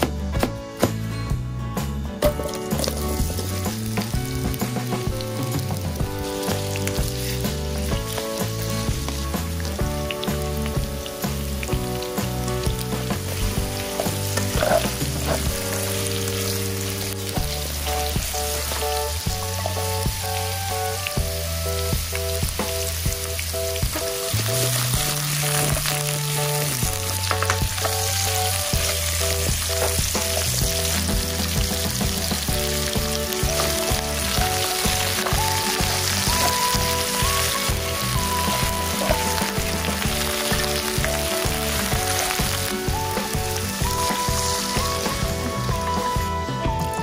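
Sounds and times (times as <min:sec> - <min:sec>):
background music: 0:00.0 - 0:47.0
beef sizzling in oil: 0:02.2 - 0:47.0.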